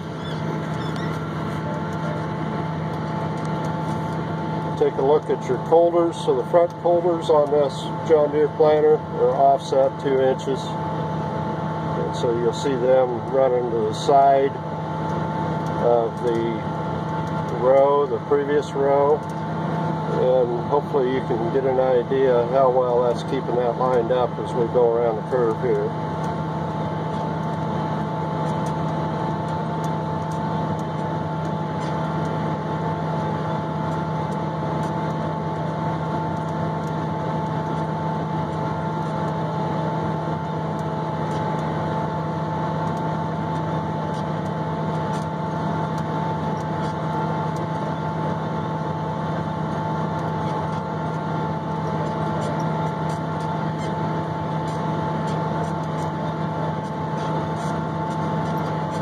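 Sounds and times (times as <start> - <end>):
steady whine: 0.0 - 59.0
tractor engine under load: 0.0 - 59.0.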